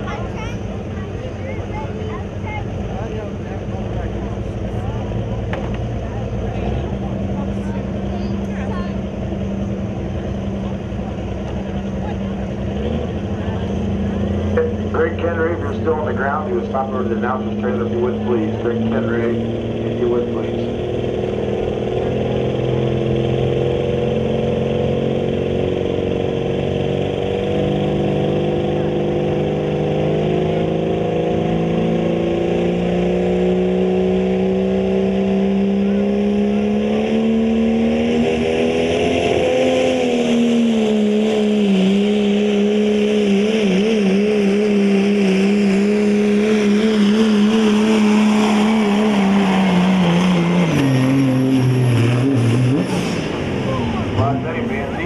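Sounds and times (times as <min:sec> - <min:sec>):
diesel truck engine at full throttle: 0:00.0 - 0:55.0.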